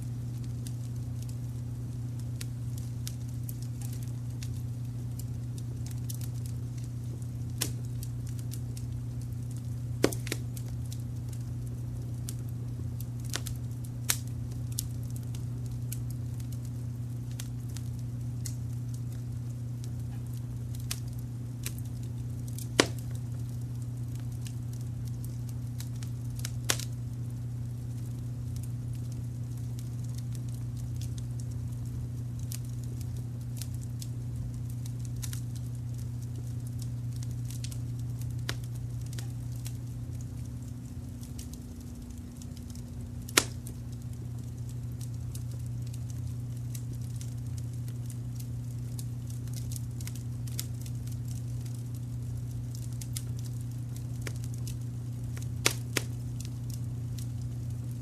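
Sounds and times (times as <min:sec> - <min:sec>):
low rumble of brown noise: 0:00.0 - 0:58.0
wood fire crackling: 0:00.0 - 0:58.0.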